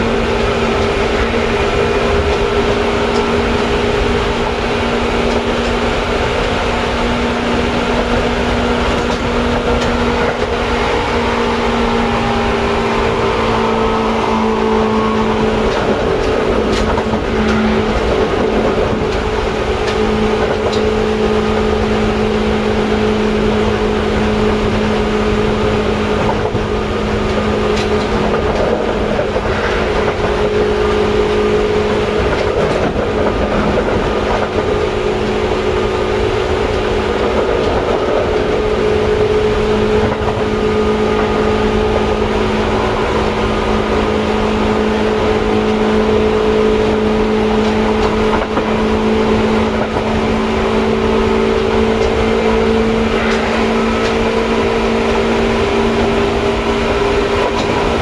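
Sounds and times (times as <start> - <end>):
electric train hum: 0.0 - 58.0
low rumble of running train: 0.0 - 58.0.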